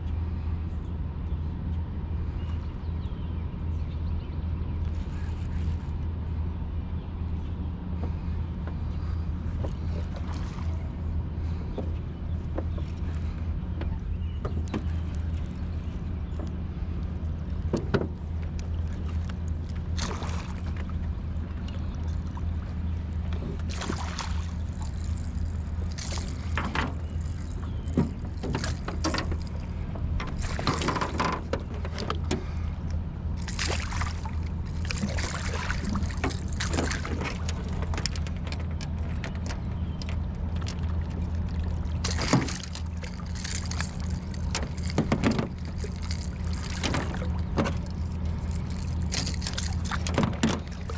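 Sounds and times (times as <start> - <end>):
boat motor humming: 0.0 - 50.9
water splashing and sloshing: 4.7 - 6.5, 7.2 - 50.9.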